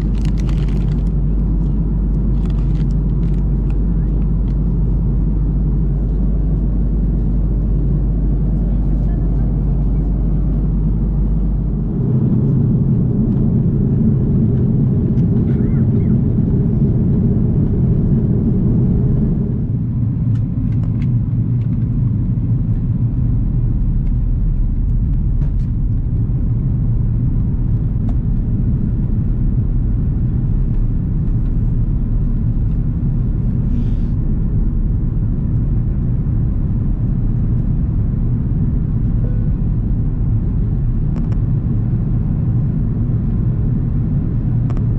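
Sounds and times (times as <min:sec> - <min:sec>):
aircraft cabin rumble: 0:00.0 - 0:44.9.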